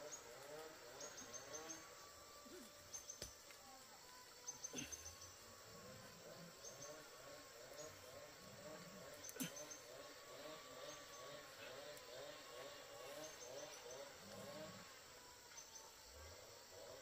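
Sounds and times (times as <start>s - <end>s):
faint insects trilling: 0.0s - 17.0s.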